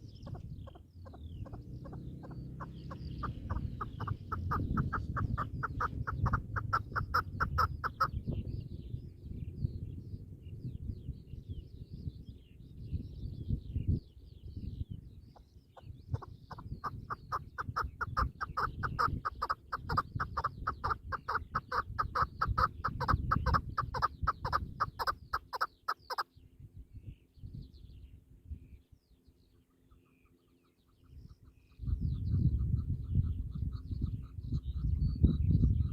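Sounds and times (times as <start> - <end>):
small birds chirping faintly: 0.0 - 35.9.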